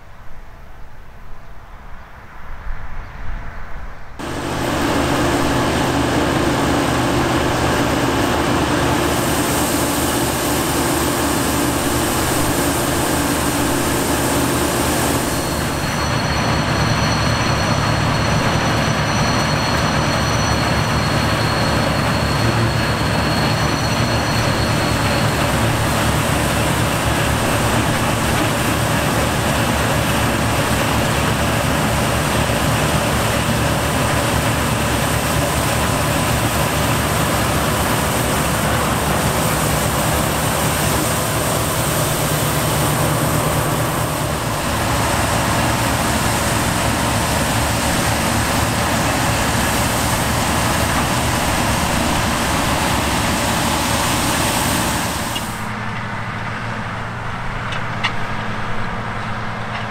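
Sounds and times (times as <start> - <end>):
combine harvester working: 4.2 - 59.9.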